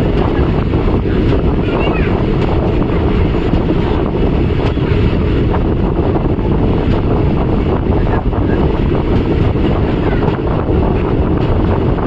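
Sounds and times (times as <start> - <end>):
train running noise: 0.0 - 12.0
wind buffeting microphone: 0.0 - 12.0.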